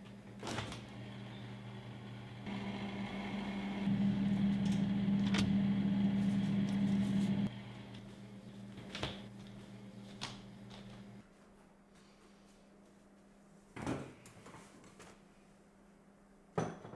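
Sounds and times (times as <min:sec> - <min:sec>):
low electrical hum: 0:00.0 - 0:16.5.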